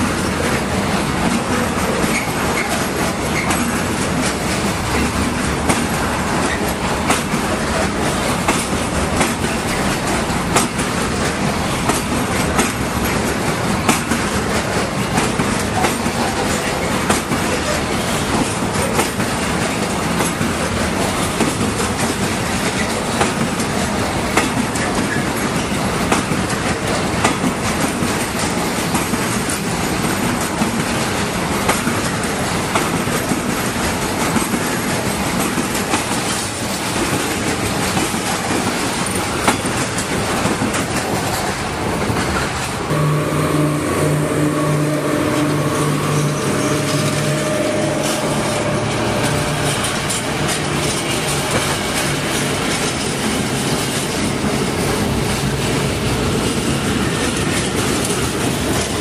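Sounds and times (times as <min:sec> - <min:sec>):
train wheels rumbling on rails: 0:00.0 - 0:59.0
wheels clanking over rail joints: 0:00.0 - 0:59.0.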